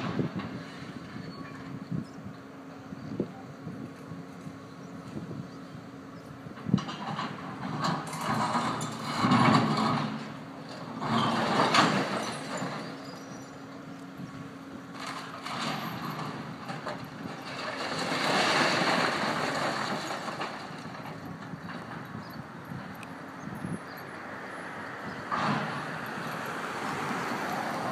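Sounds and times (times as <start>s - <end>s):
masonry rumbling and scraping: 0.0s - 5.6s, 6.3s - 27.9s
excavator engine drone: 0.0s - 27.9s.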